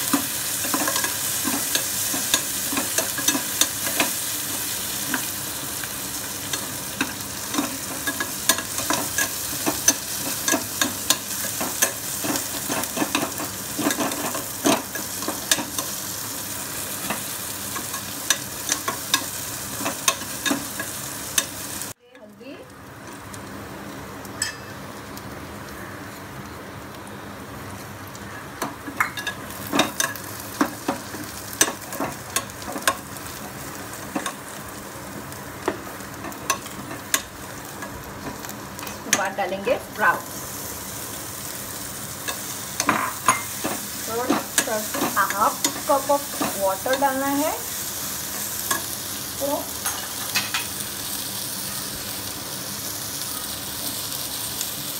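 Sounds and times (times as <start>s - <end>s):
onions sizzling in oil: 0.0s - 54.9s.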